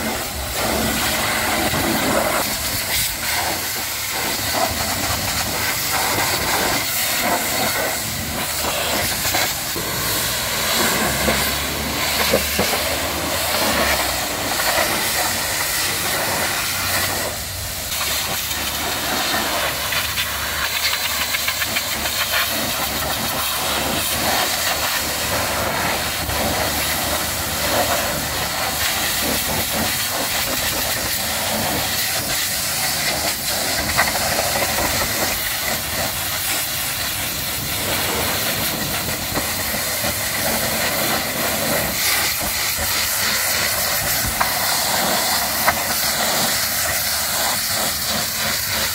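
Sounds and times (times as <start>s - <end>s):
pressure washer spraying water: 0.0s - 48.9s.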